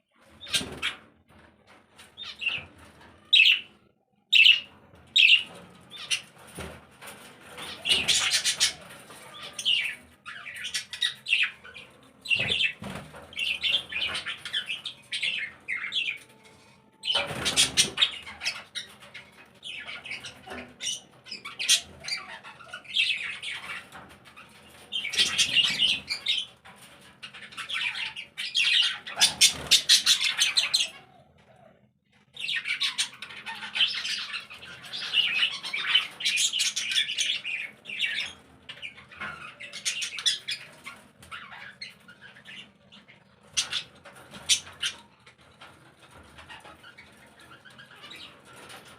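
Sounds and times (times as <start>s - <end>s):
birds chirping and squawking: 0.0s - 48.9s.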